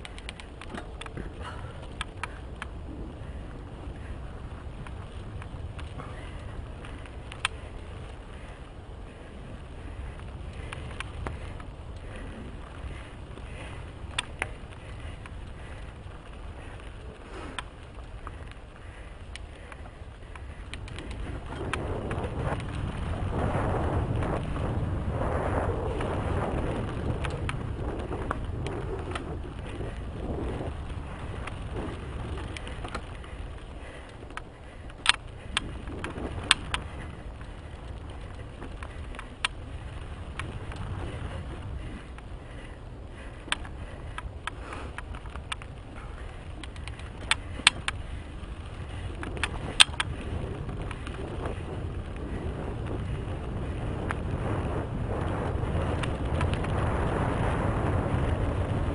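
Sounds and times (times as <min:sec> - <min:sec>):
bike clicking and rattling: 0:00.0 - 0:58.9
bike tyres rolling on dirt: 0:00.0 - 0:58.9
wind buffeting microphone: 0:00.0 - 0:58.9.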